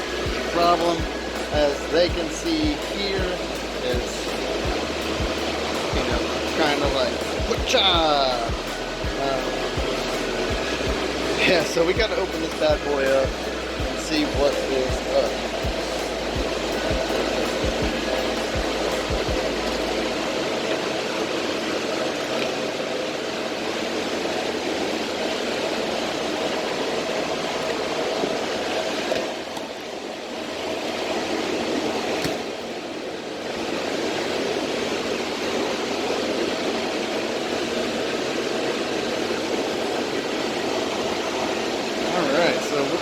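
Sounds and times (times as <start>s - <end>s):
cooling fans whooshing: 0.0s - 43.0s.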